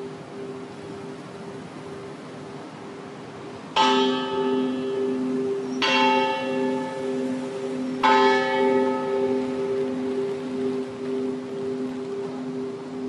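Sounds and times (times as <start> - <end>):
ship bell ringing: 0.0 - 13.0.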